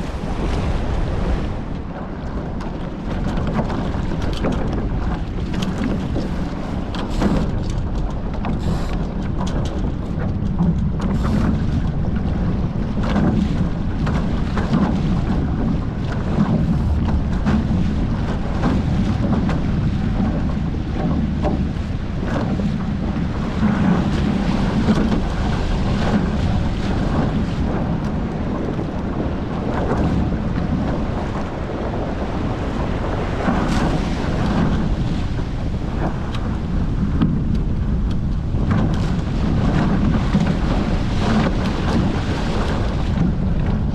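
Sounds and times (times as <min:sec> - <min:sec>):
water rushing past hulls: 0:00.0 - 0:43.9
waves slapping and splashing: 0:00.0 - 0:43.9
wind buffeting microphone: 0:00.0 - 0:43.9.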